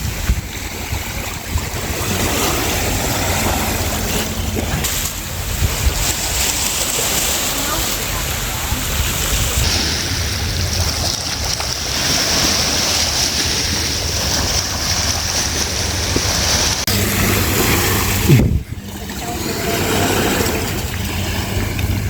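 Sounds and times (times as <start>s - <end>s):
wind noise on microphone: 0.0s - 7.0s, 8.5s - 22.0s
surf washing on shore: 0.0s - 22.0s.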